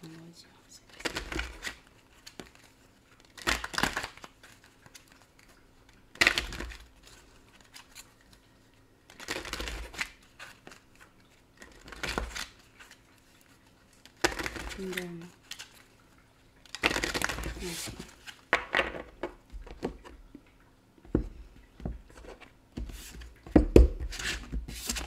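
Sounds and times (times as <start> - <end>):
cards being shuffled: 0.9 - 8.4, 9.1 - 15.8, 16.7 - 20.2, 21.8 - 25.0.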